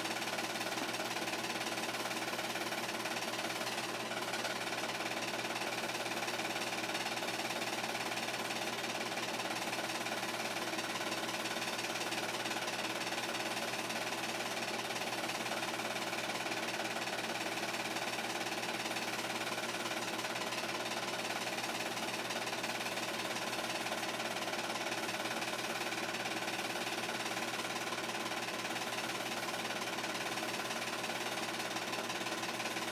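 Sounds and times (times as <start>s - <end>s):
film projector clattering: 0.0s - 32.9s.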